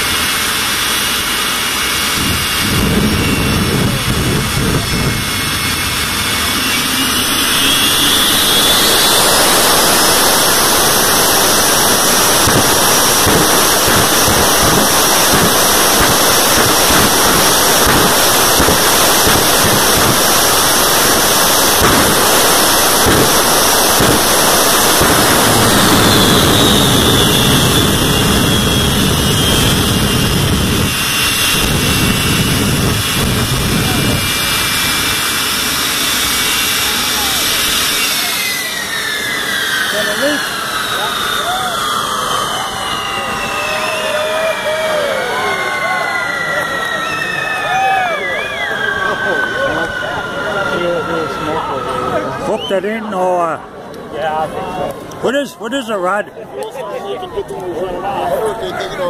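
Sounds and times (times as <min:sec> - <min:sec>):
jet engine turbine whine: 0:00.0 - 0:59.0.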